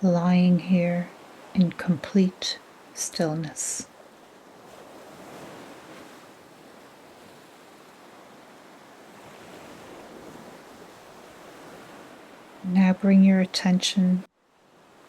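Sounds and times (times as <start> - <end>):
ocean waves washing on shore: 0.0 - 15.0.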